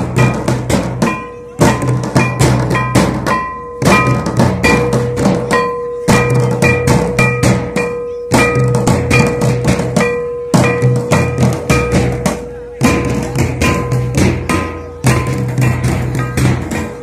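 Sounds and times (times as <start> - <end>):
folk drums beaten with sticks: 0.0 - 17.0.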